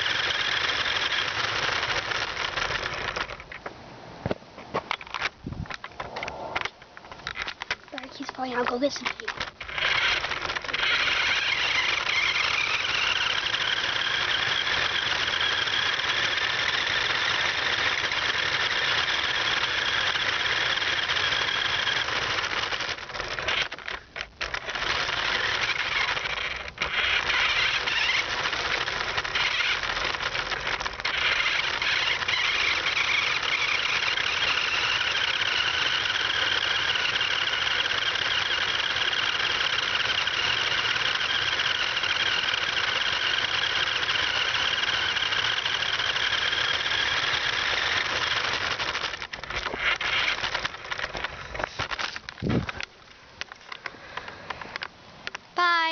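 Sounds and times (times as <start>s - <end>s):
toy car motor whining: 0.0s - 3.6s, 5.2s - 52.9s, 55.6s - 55.9s.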